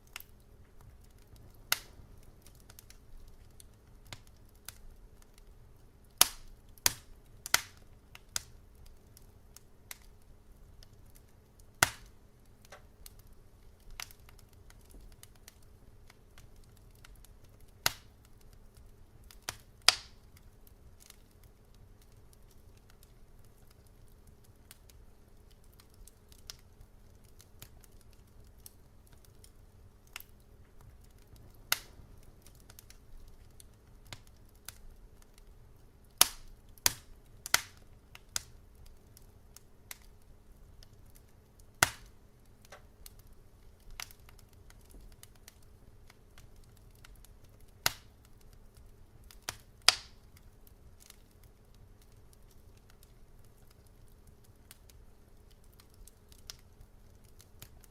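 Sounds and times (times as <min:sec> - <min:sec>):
faint low hum: 0:00.0 - 0:57.9
fire crackling: 0:00.0 - 0:57.9.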